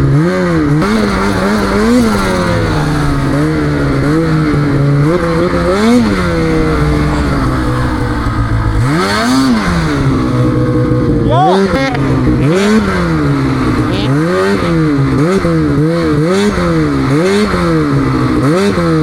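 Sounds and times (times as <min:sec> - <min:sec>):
snowmobile engine with throttle blips: 0:00.0 - 0:19.0.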